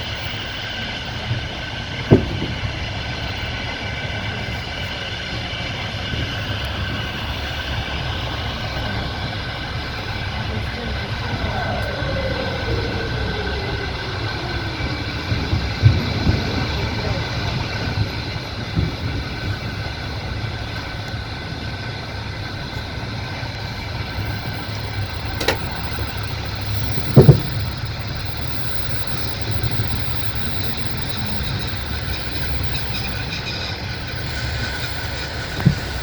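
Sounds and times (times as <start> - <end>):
train carriage rumbling on track: 0.0 - 36.0
wheels knocking over rails: 0.0 - 36.0.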